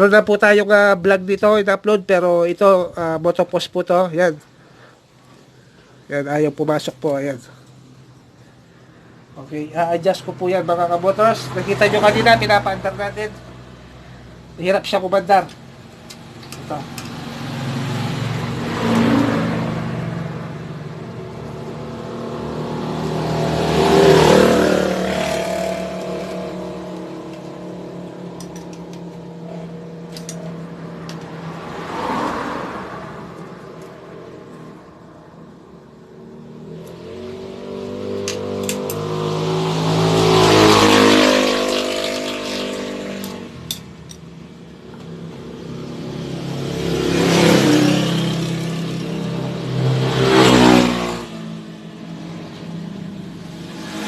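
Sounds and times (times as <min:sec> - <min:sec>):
motorcycle engine revving: 0:10.0 - 0:54.0.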